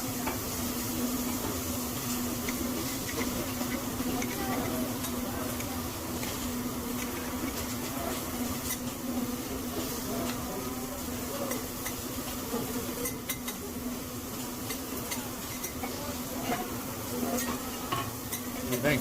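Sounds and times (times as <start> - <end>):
steady buzzing hum: 0.0 - 19.0.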